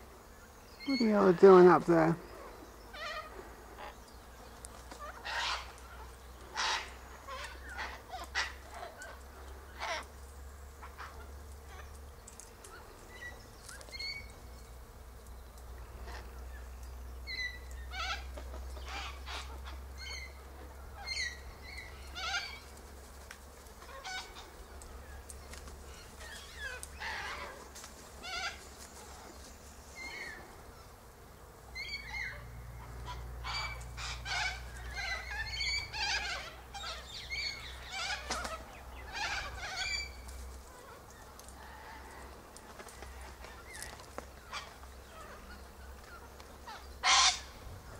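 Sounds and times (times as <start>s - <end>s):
cockatoos calling: 0.8s - 14.5s, 15.8s - 23.0s, 23.6s - 47.9s.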